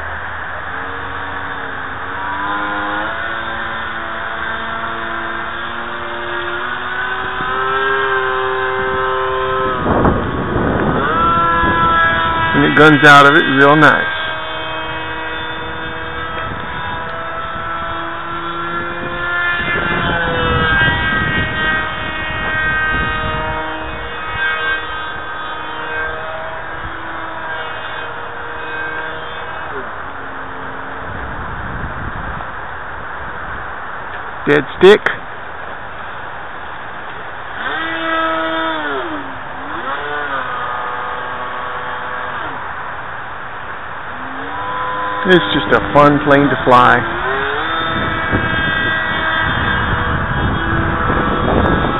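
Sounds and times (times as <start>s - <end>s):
electric propeller motor whining: 0.0s - 51.9s
wind rumble on microphone: 0.0s - 51.9s.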